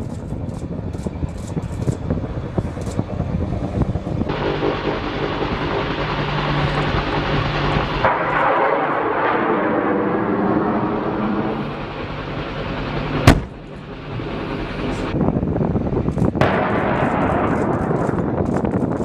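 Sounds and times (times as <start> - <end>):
helicopter turbine and rotor noise: 0.0 - 19.0.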